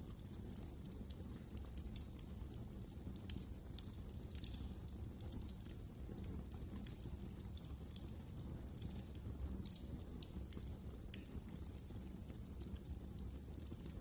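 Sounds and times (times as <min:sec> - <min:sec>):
fire crackling and popping: 0:00.0 - 0:14.0
low fire rumble: 0:00.0 - 0:14.0.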